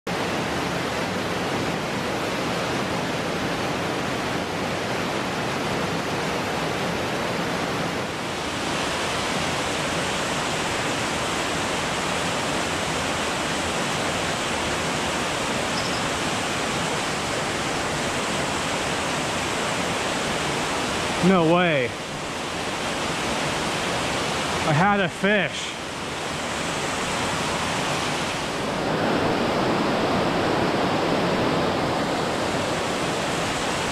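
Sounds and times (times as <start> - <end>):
waterfall rushing into pool: 0.1 - 33.9.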